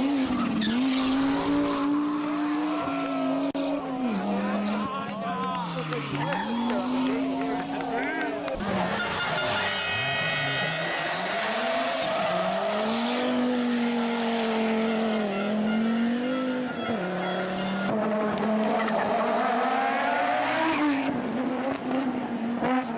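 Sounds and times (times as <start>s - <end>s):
rally car engine revving hard: 0.0s - 22.9s.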